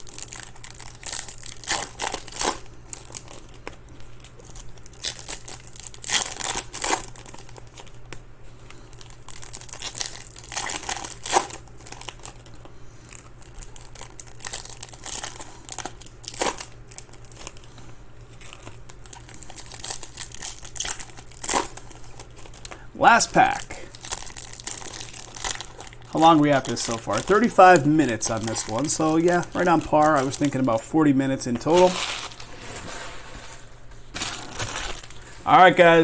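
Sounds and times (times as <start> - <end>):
foil wrappers tearing and crinkling: 0.0 - 17.7, 18.3 - 30.8, 31.4 - 33.4, 34.0 - 35.7.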